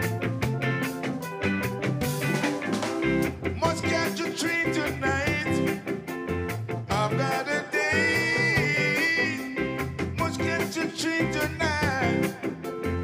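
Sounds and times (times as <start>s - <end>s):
ska band playing: 0.0s - 13.0s.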